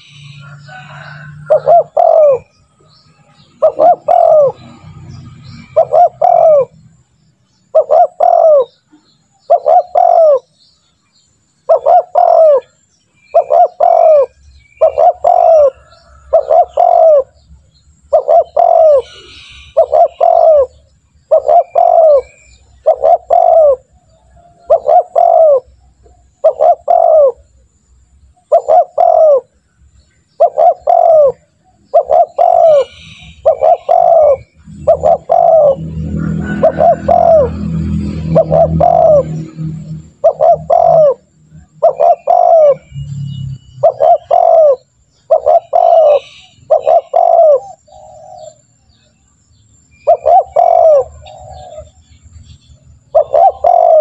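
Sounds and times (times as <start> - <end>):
dove cooing: 0.0 - 2.6, 3.4 - 6.8, 7.7 - 10.6, 11.6 - 17.4, 18.1 - 27.5, 28.4 - 29.6, 30.3 - 43.0, 43.8 - 48.7, 50.0 - 52.0, 53.1 - 54.0.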